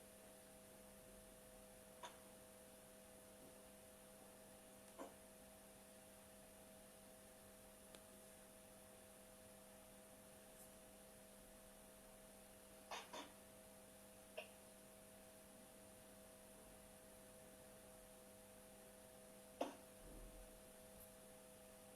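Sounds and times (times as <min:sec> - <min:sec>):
faint electrical hum with hiss: 0:00.0 - 0:21.9.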